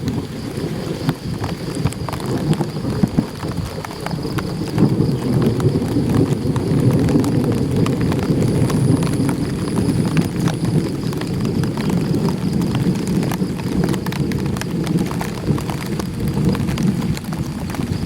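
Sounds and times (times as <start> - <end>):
rain drumming on an umbrella: 0.0 - 18.0.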